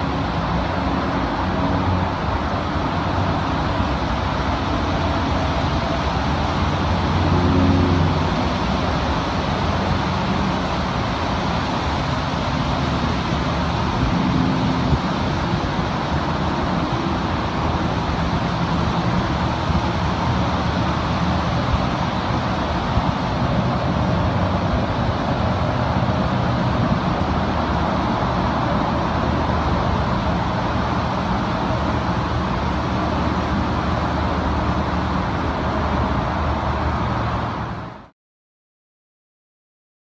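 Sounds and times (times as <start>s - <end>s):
constant rushing noise: 0.0s - 38.1s
low engine hum: 0.0s - 38.1s.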